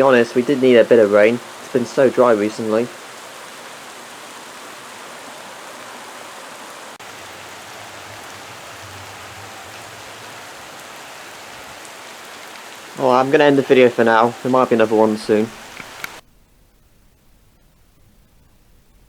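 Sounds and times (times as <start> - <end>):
rain falling steadily: 0.0 - 19.0.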